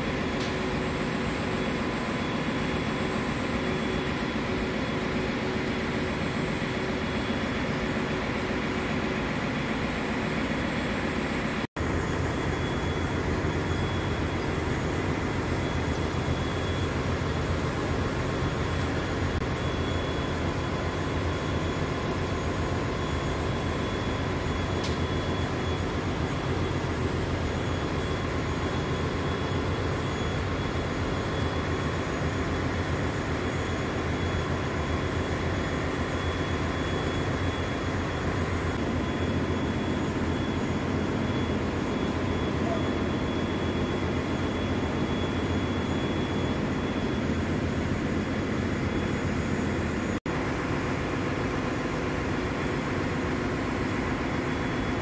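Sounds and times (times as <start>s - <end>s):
engine-room machinery drone: 0.0s - 55.0s
faint machine whines: 0.0s - 55.0s.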